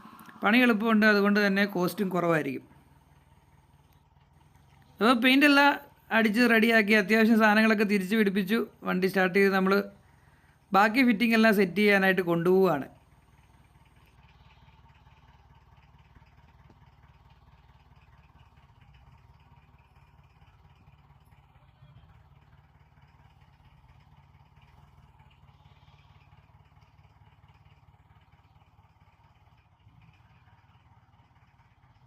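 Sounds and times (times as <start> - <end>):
faint jeep engine running: 0.0 - 32.0.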